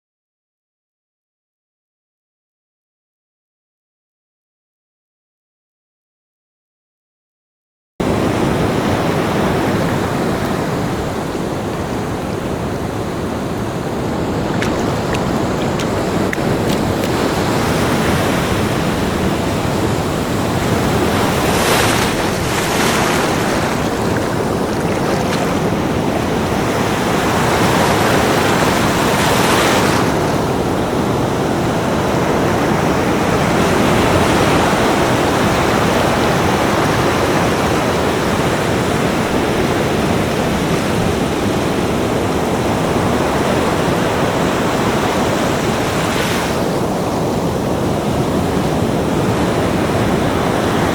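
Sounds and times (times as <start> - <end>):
ocean waves breaking on beach: 8.0 - 50.9.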